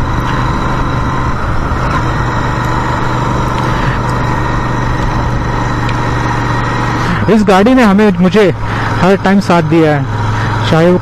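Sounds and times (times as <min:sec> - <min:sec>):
motorcycle engine hum: 0:00.0 - 0:11.0
road noise: 0:00.0 - 0:11.0.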